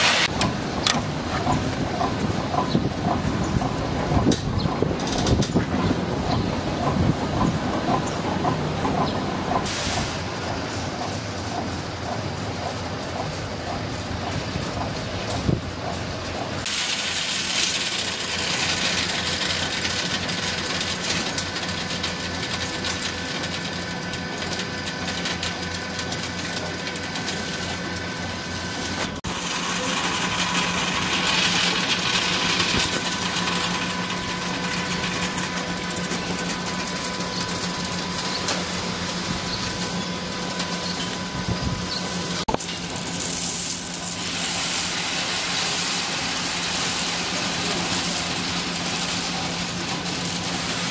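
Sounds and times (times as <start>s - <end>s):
machinery whir and hum: 0.0s - 50.9s.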